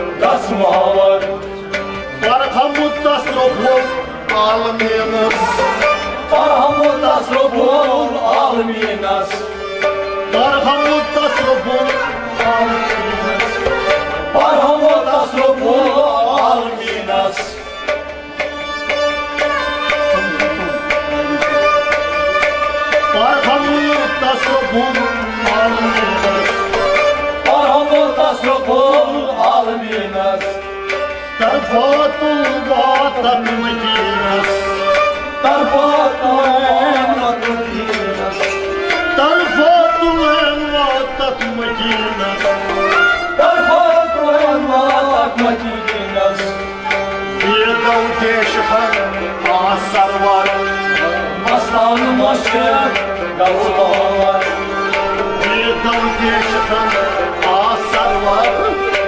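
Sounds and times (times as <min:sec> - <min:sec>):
harmonium and bowed strings melody: 0:00.0 - 0:59.0
clay pot drum: 0:00.1 - 0:59.0.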